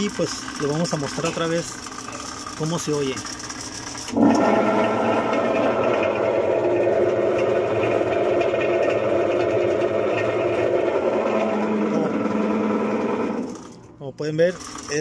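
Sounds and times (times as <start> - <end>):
washing machine mechanical noise: 0.0 - 15.0.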